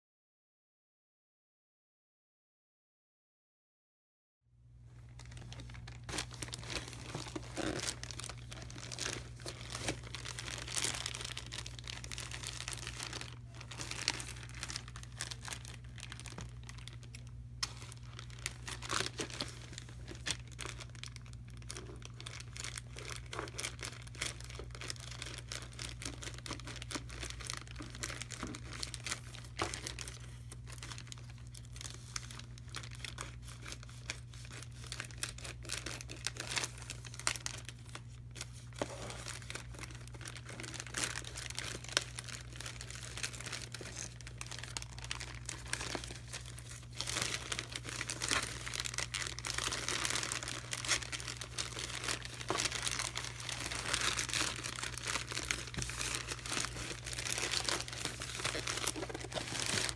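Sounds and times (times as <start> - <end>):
plastic mailer bag crinkling and tearing: 5.0 - 59.9.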